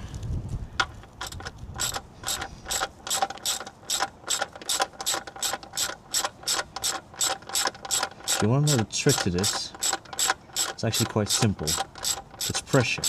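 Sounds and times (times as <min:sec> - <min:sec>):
ratchet wrench clicking: 0:00.8 - 0:13.0.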